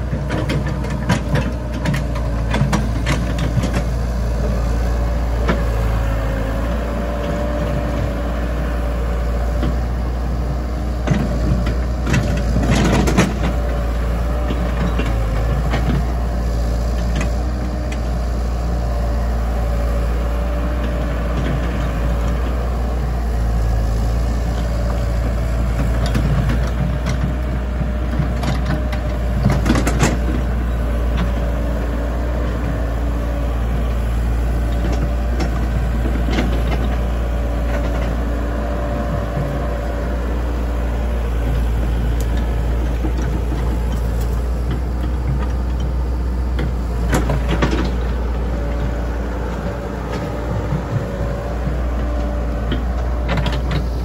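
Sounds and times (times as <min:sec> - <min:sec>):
constant whine: 0:00.0 - 0:54.0
excavator diesel engine: 0:00.0 - 0:54.0.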